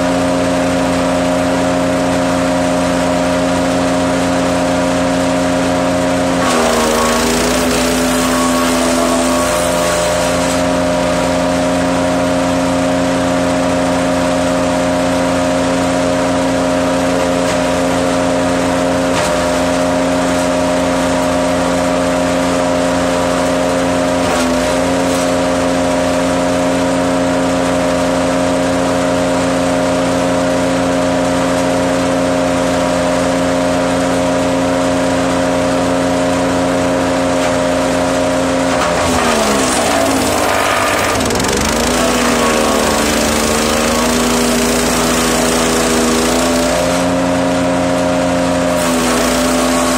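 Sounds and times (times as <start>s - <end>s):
wood chipper engine running: 0.0s - 49.9s.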